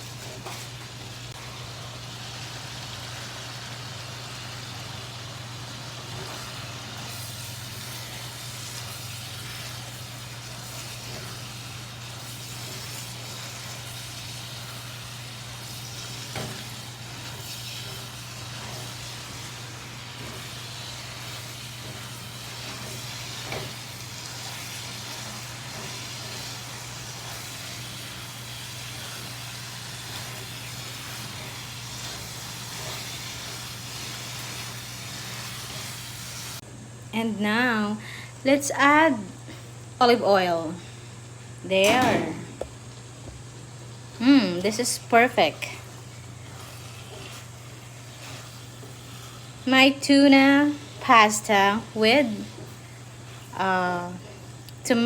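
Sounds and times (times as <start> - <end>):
food sizzling in a frying pan: 0.0 - 36.7, 41.1 - 55.0.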